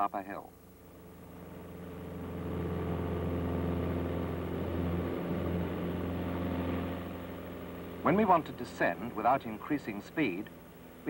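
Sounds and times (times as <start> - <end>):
plane engine droning: 0.0 - 11.0.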